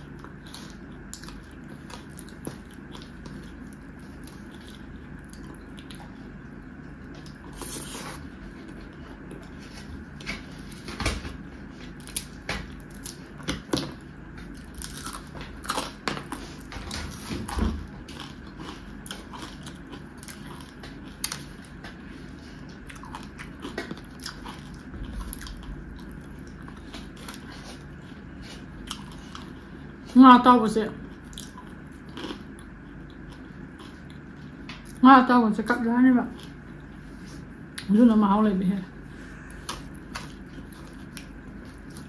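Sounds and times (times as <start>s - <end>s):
person chewing food: 0.0s - 30.2s, 31.0s - 35.0s, 36.3s - 37.9s, 39.0s - 42.0s.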